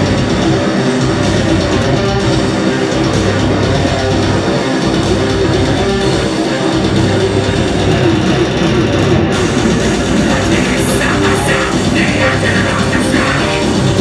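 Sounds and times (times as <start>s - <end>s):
bass guitar: 0.0s - 14.0s
electric guitars: 0.0s - 14.0s
metal band playing live: 0.0s - 14.0s.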